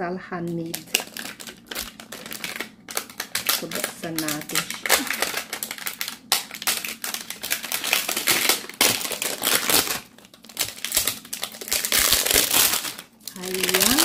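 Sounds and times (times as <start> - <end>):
plastic wrapping crinkling: 0.4 - 14.0.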